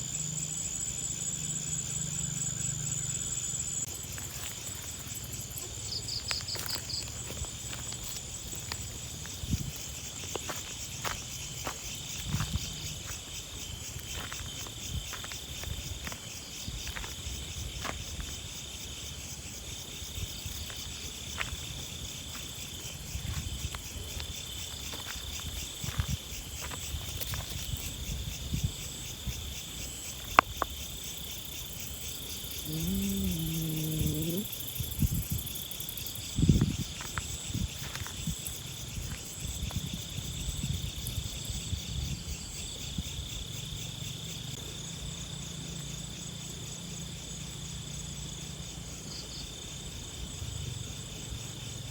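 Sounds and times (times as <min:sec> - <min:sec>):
insects chirring: 0:00.0 - 0:51.9.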